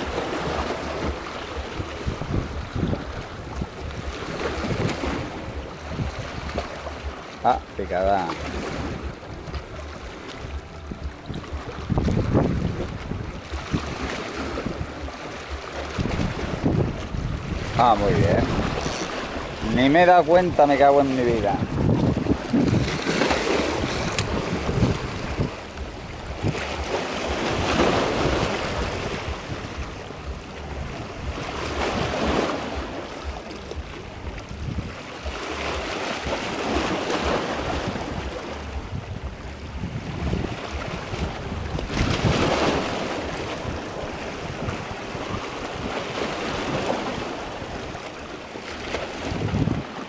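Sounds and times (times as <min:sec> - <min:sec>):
small waves on rocky shore: 0:00.0 - 0:50.0
wind rumbling on microphone: 0:00.0 - 0:50.0.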